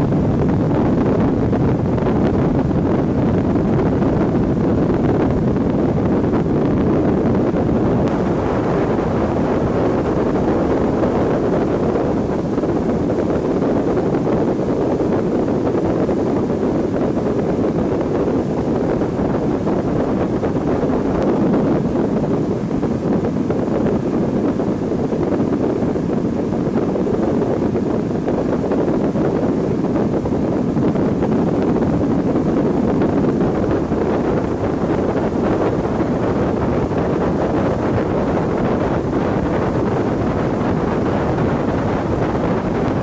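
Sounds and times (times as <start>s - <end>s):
wind blasting microphone: 0.0s - 43.0s.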